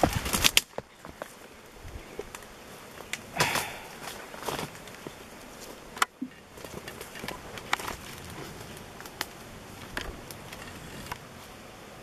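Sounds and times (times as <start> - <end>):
twigs snapping: 0.0 - 1.4, 2.2 - 11.3
branch and brush rustling: 0.0 - 11.7.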